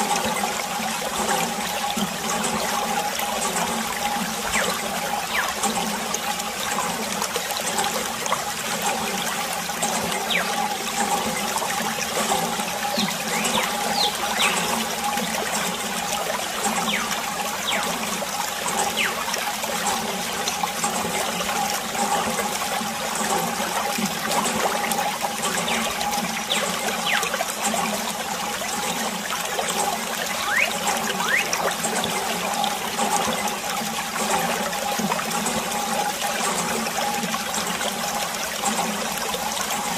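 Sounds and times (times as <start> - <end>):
water dripping: 0.0 - 39.9
water running from hose: 0.0 - 39.9.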